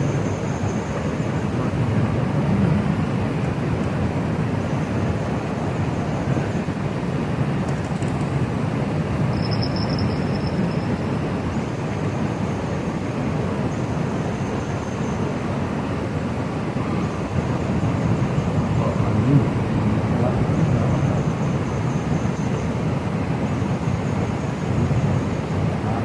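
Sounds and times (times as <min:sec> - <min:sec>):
water rushing over rocks: 0:00.0 - 0:09.4, 0:10.1 - 0:26.0.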